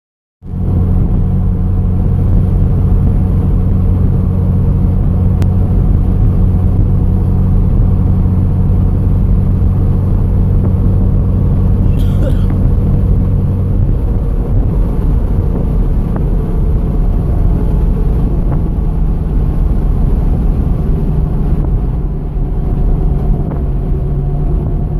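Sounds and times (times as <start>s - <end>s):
vehicle cabin engine and road rumble: 0.5s - 24.9s.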